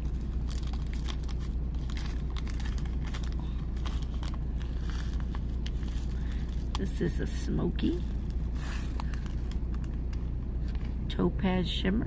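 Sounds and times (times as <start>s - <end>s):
plastic bag crinkling: 0.0s - 11.0s
steady low hum: 0.0s - 12.0s.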